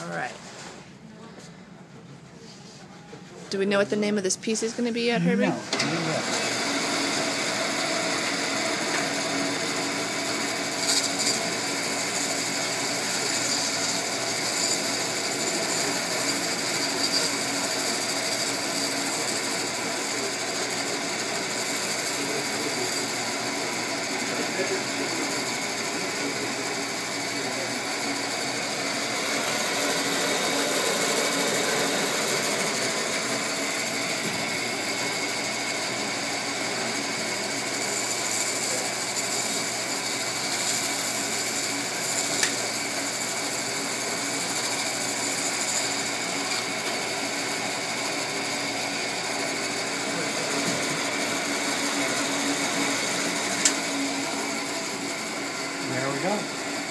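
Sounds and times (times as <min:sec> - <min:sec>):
band saw running: 0:04.0 - 0:56.9.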